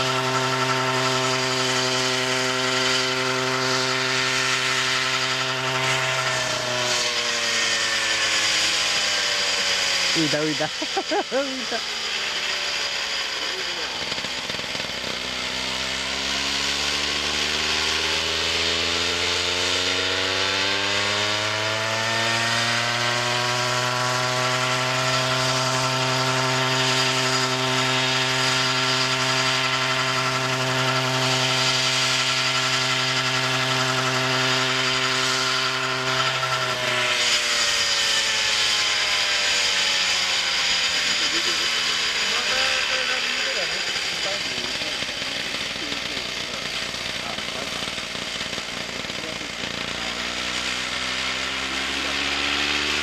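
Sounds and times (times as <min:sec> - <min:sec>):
rc helicopter engine running: 0:00.0 - 0:53.0.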